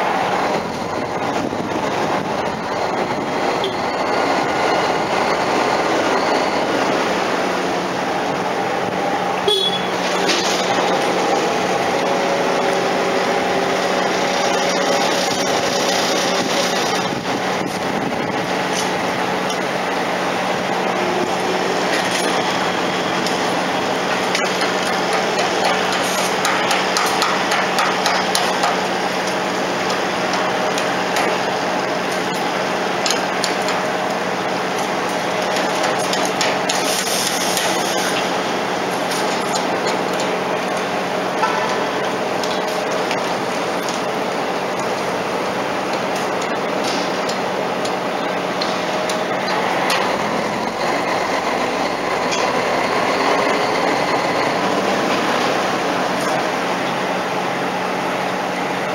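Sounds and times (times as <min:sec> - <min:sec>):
broad rushing noise: 0:00.0 - 0:58.9
ship machinery humming: 0:00.0 - 0:58.9.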